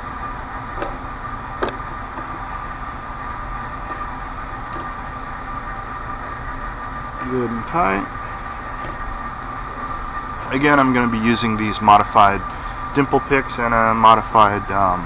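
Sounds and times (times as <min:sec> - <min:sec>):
faint high whine: 0:00.0 - 0:15.0
steady background hum: 0:00.0 - 0:15.0.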